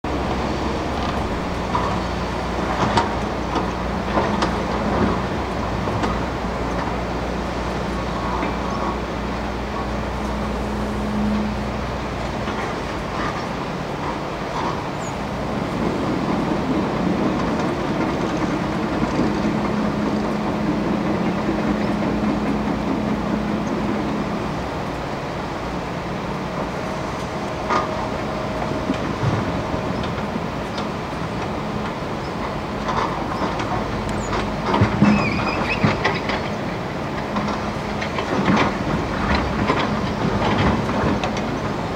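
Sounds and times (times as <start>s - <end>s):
excavator diesel engine running: 0.0s - 41.9s
rushing water: 0.0s - 41.9s.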